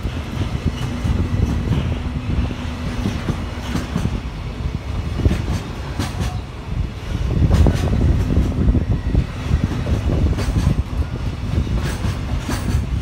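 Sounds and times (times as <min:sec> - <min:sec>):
wheels clacking over rail joints: 0:00.0 - 0:04.4, 0:05.0 - 0:08.9, 0:09.5 - 0:13.0
train wheels rumbling on rail: 0:00.0 - 0:13.0.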